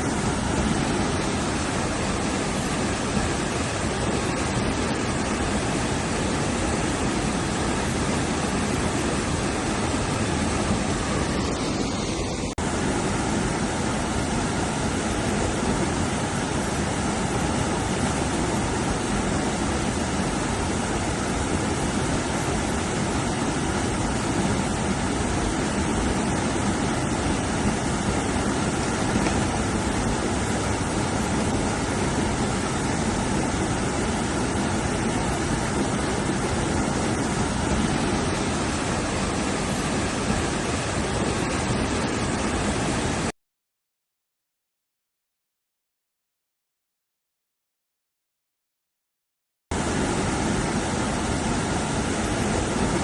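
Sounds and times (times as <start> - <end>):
river water rushing over rapids: 0.0 - 43.3, 49.8 - 53.0.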